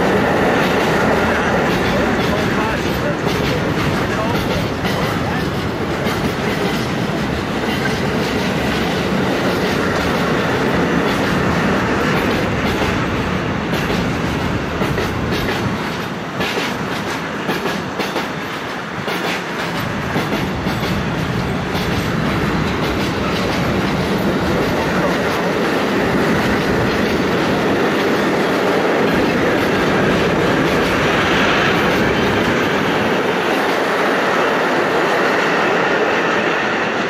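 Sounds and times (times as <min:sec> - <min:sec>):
freight train wagons rolling: 0:00.0 - 0:34.9
wheels clicking over rail joints: 0:00.5 - 0:34.2.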